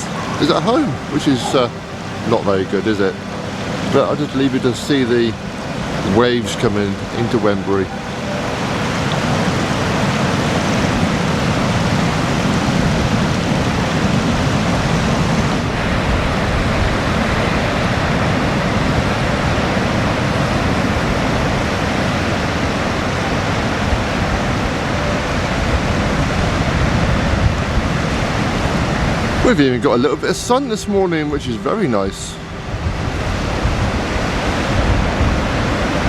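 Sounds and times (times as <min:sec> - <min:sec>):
sea surf breaking on beach: 0:00.0 - 0:36.0.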